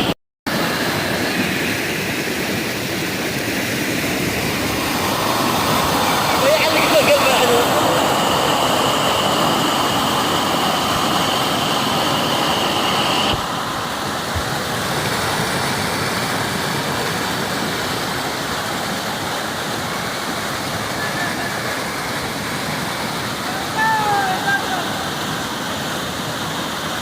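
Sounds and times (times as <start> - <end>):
rainwater rushing: 0.0 - 27.0.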